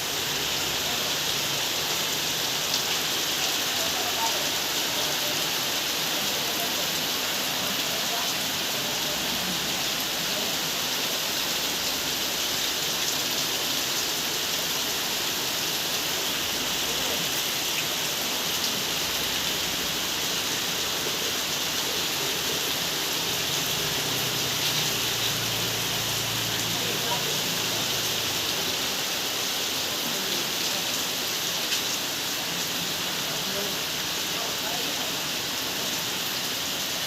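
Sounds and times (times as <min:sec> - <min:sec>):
rain falling steadily: 0:00.0 - 0:37.0.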